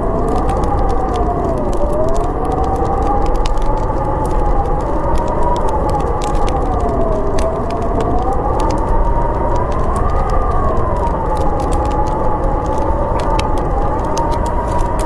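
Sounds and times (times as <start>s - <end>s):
howling blizzard wind: 0.0s - 15.0s
wood fire crackling: 0.0s - 15.0s.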